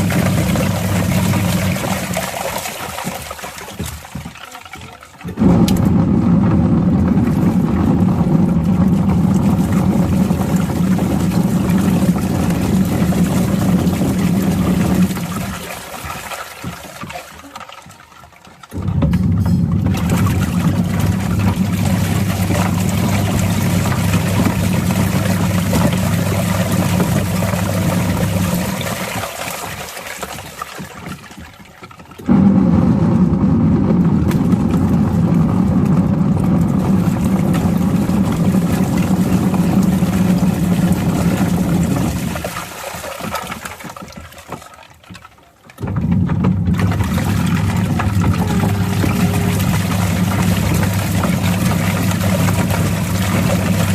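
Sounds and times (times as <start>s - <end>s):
washing machine motor running: 0.0s - 53.9s
water churning in drum: 0.0s - 53.9s.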